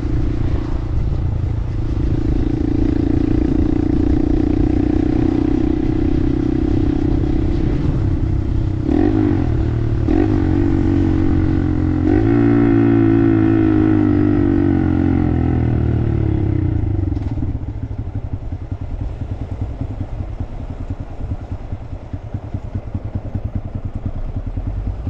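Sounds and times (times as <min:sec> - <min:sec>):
motorcycle engine running: 0:00.0 - 0:25.0
wind and road rumble: 0:00.0 - 0:25.0.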